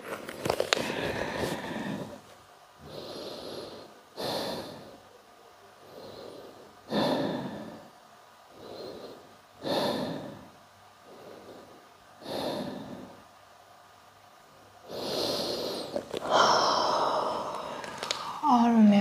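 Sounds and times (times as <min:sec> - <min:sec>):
slow human breathing: 0:00.0 - 0:05.1, 0:05.8 - 0:13.4, 0:14.8 - 0:18.5.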